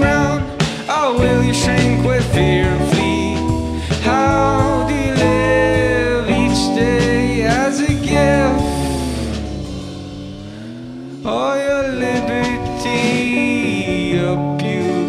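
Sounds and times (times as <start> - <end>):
live folk-rock band: 0.0 - 15.0.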